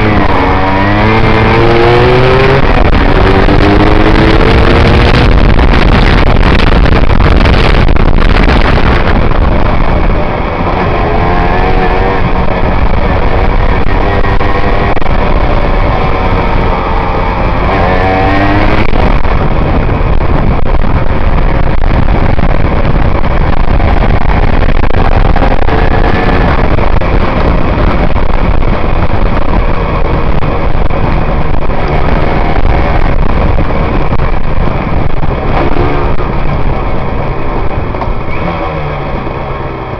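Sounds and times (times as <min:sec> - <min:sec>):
two-stroke motorcycle engine revving: 0:00.0 - 0:34.2, 0:34.8 - 0:36.8
wind noise: 0:00.0 - 0:39.9.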